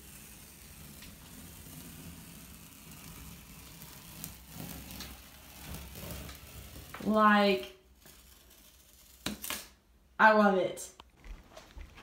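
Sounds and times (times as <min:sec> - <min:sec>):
tape peeling off wall: 0:00.0 - 0:09.8.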